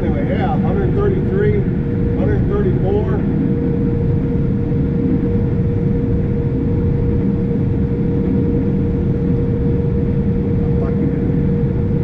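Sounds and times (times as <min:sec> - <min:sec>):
combine harvester drone: 0:00.0 - 0:12.0
constant machine whine: 0:00.0 - 0:12.0.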